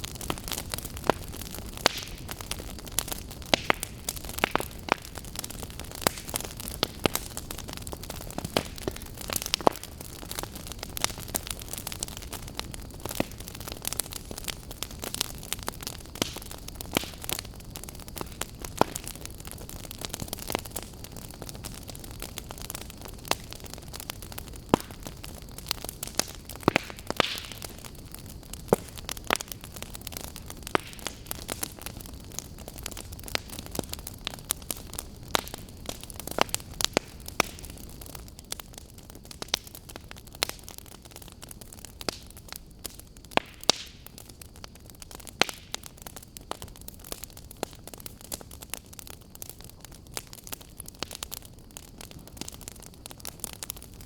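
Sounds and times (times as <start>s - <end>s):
firewood crackling and popping: 0.0s - 54.0s.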